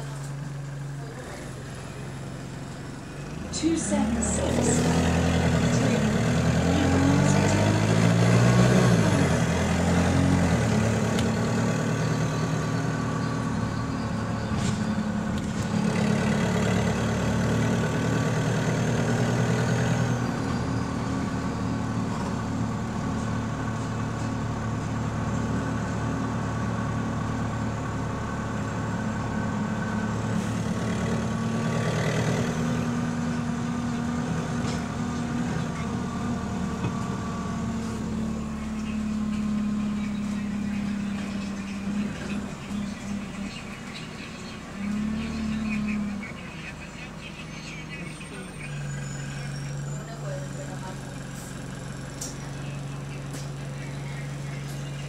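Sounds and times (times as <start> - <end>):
diesel bus engine pulling away: 0.0 - 55.0.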